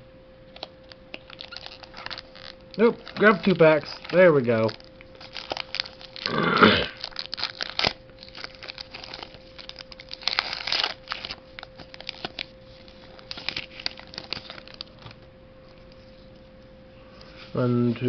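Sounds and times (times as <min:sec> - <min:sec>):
faint steady hum: 0:00.0 - 0:18.0
foil wrapper tearing and crinkling: 0:00.5 - 0:16.3.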